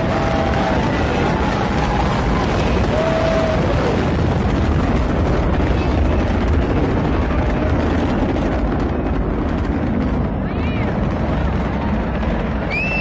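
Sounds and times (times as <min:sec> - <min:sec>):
rocket launch rumble: 0:00.0 - 0:13.0.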